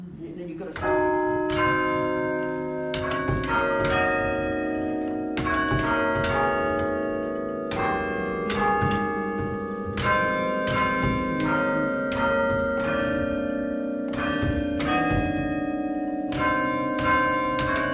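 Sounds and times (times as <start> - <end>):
church bells chiming: 0.6 - 17.9.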